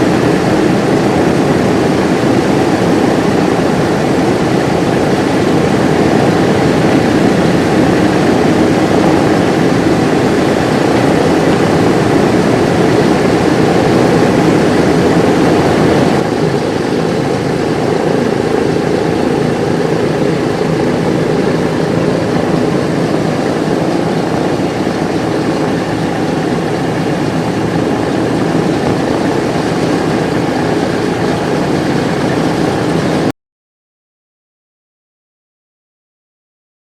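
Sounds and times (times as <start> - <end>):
model aircraft engine and propeller drone: 0.0 - 33.3.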